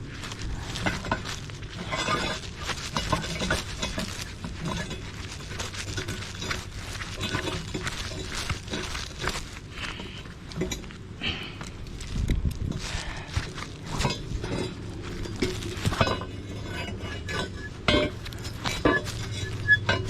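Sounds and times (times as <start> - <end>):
metal tools clinking and clattering: 0.0 - 20.0.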